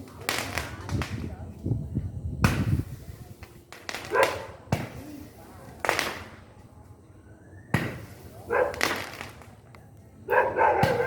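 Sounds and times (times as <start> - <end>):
fireworks bangs: 0.0 - 6.8, 7.4 - 11.0.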